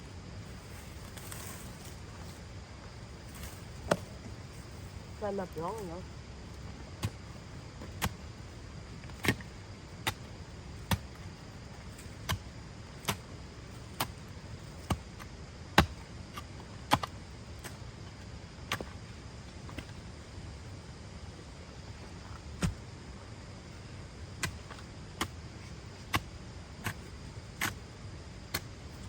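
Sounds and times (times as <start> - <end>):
low background rumble: 0.0 - 29.0.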